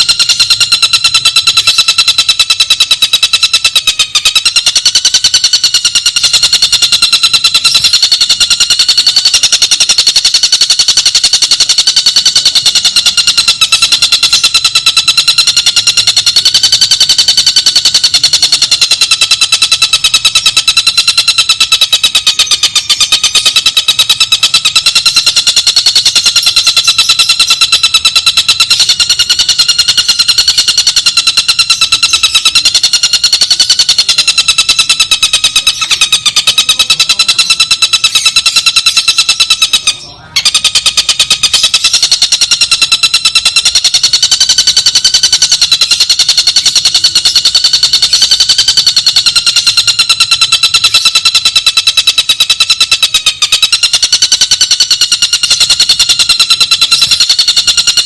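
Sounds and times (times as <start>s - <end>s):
bird buzzing trill: 0.0s - 52.5s.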